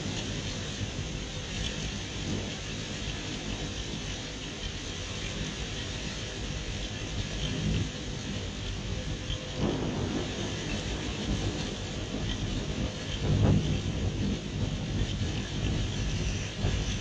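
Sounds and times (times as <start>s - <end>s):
storm wind rushing: 0.0s - 17.0s.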